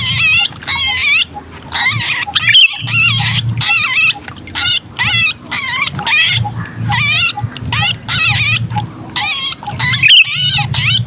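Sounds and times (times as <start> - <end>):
bird distress cries: 0.0 - 11.0
low rumbling noise: 0.0 - 11.0.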